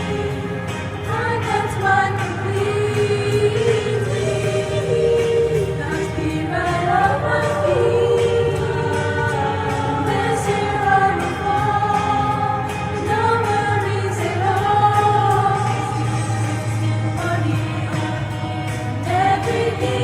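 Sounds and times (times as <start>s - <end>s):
choir singing with accompaniment: 0.0s - 20.0s.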